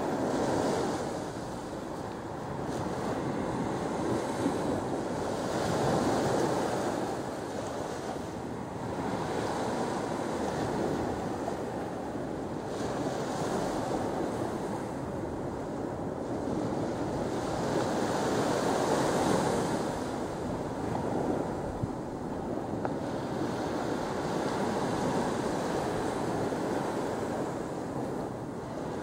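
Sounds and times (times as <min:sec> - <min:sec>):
small waves breaking on beach: 0:00.0 - 0:29.0.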